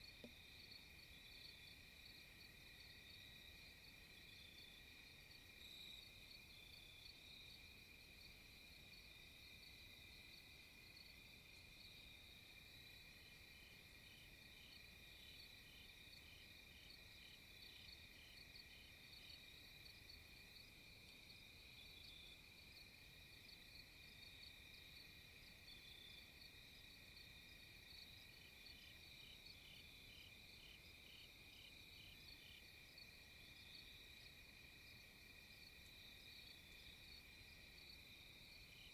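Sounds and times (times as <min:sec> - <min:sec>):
insects trilling and chirping: 0:00.0 - 0:38.9.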